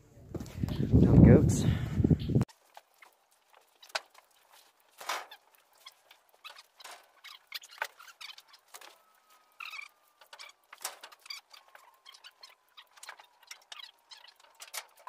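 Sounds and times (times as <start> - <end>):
animals moving in mud and hay: 2.5 - 15.0.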